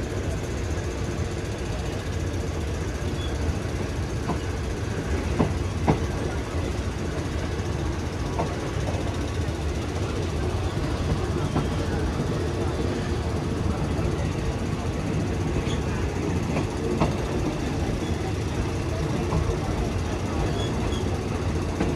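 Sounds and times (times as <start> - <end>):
train rumbling: 0.0 - 21.9.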